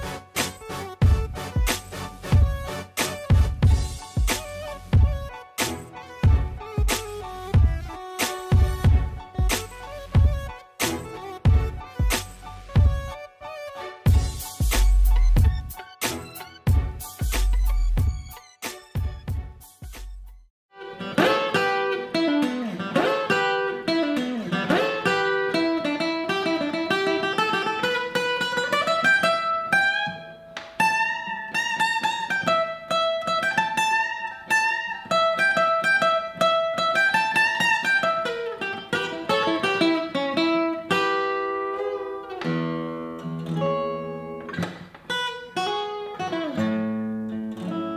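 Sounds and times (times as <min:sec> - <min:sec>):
fingerpicked acoustic guitar: 0:00.0 - 0:18.0, 0:20.8 - 0:47.9.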